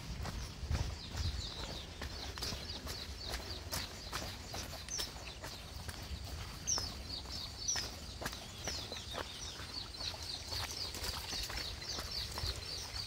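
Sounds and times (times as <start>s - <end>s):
footsteps on a trail: 0.0s - 13.0s
small birds chirping: 0.0s - 13.0s.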